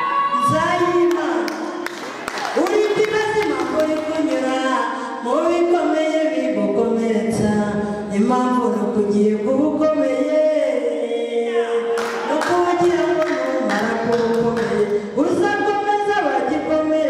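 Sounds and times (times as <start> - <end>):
unaccompanied singing: 2.6 - 16.3.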